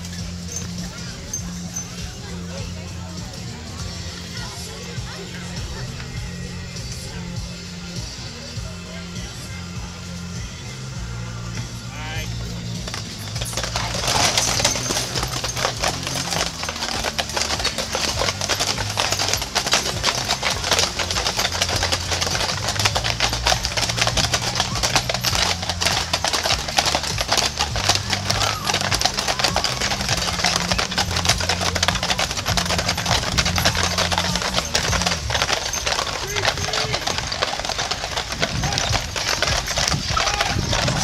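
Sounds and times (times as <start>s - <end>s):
horse hooves clip-clopping on asphalt: 0.0s - 41.0s.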